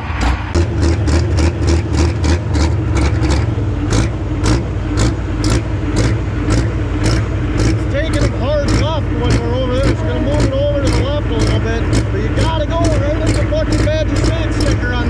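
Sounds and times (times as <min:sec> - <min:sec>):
diesel engine at low revs: 0:00.0 - 0:15.0.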